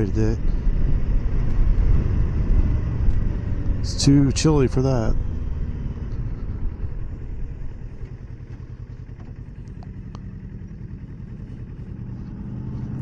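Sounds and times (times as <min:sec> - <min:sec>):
motorcycle engine at low revs: 0:00.0 - 0:13.0
road and wind noise: 0:00.0 - 0:13.0.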